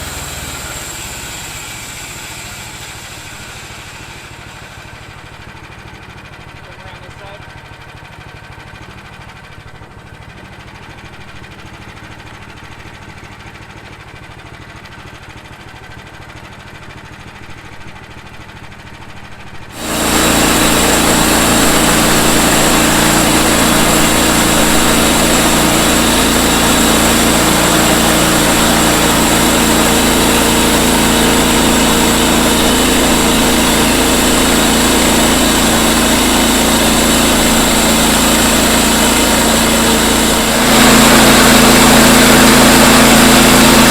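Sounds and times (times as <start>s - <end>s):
small gasoline engine running: 0.0s - 43.9s.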